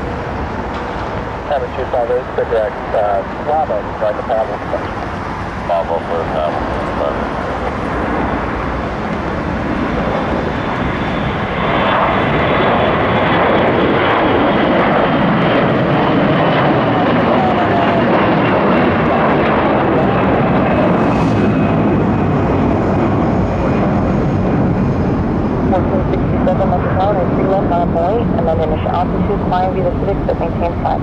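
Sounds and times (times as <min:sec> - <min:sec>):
high turbine whine: 0:00.0 - 0:31.0
jet engines roaring: 0:00.0 - 0:31.0.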